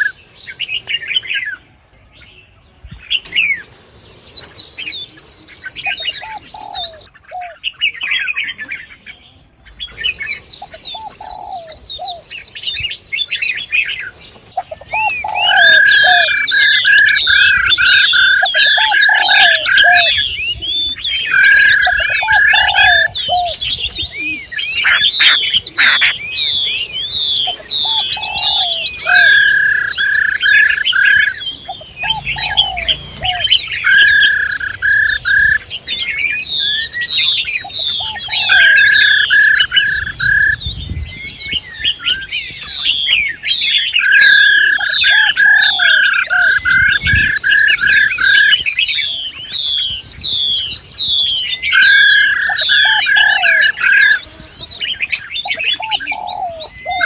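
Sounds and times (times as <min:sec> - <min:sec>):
birds chirping and whistling: 0:00.0 - 0:57.0.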